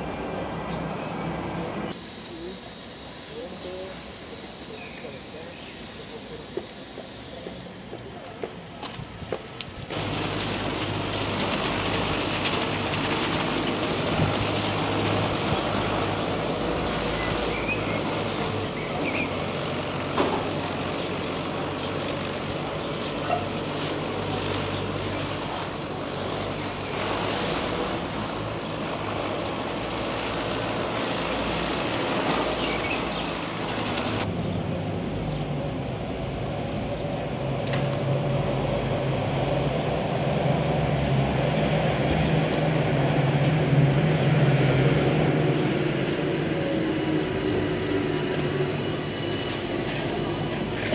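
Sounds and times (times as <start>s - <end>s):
traffic noise: 0.0s - 50.9s.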